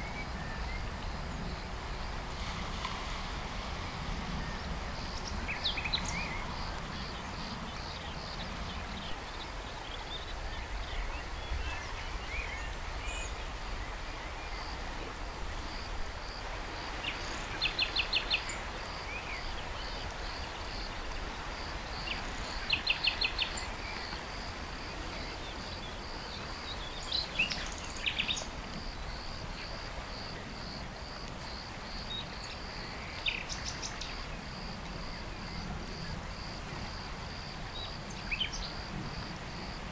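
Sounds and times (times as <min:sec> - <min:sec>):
steady background noise: 0:00.0 - 0:39.9.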